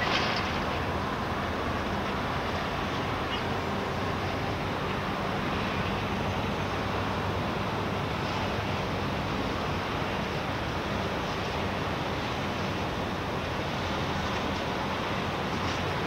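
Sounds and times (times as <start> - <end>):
rumble and hiss of yard ambience: 0.0 - 16.0.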